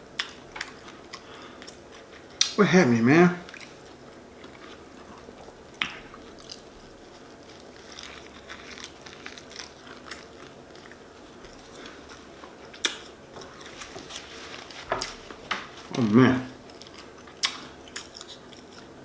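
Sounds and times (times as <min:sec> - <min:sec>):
person chewing sandwich: 0:00.0 - 0:02.6, 0:03.4 - 0:19.0.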